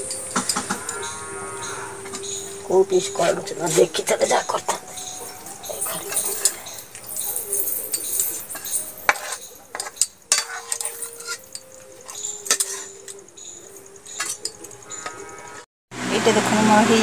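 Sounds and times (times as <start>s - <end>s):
sharp metal clinks: 0.0s - 15.6s
metal spoon scraping steel pot: 2.0s - 15.6s.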